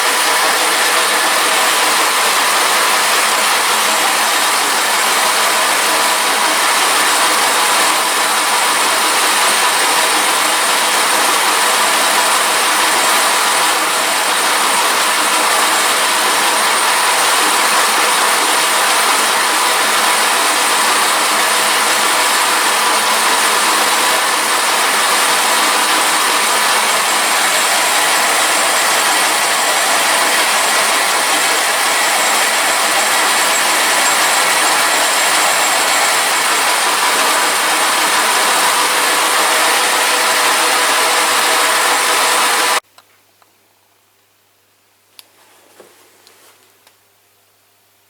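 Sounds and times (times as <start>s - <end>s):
workshop machine hissing and whining: 0.0s - 42.8s.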